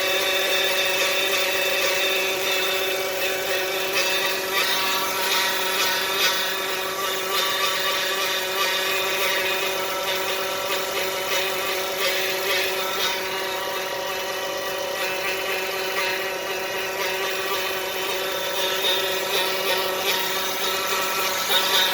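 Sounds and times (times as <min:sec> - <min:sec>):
engine running with whine: 0:00.0 - 0:21.9.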